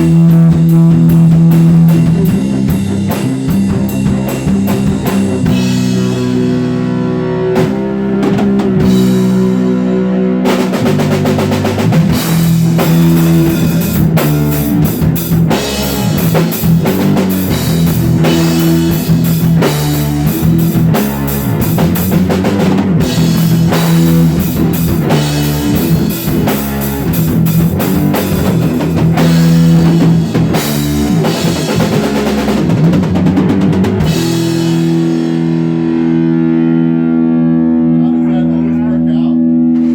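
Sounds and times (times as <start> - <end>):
drum kit: 0.0 - 39.9
guitar playing: 0.0 - 39.9
sustained low notes: 0.0 - 39.9.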